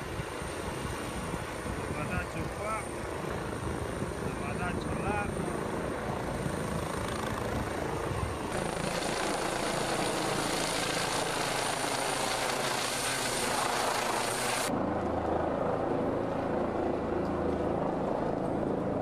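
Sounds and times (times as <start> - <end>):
helicopter rotor whirring: 0.0 - 19.0.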